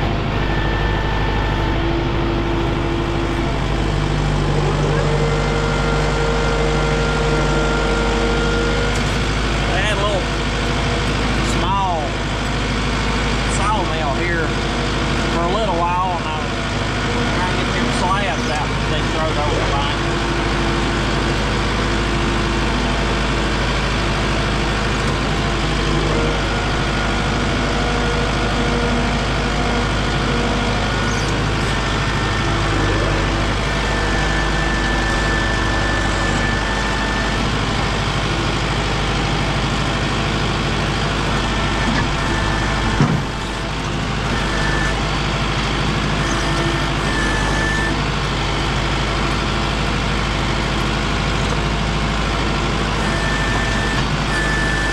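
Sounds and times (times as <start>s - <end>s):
heavy vehicle engine running: 0.0s - 54.9s.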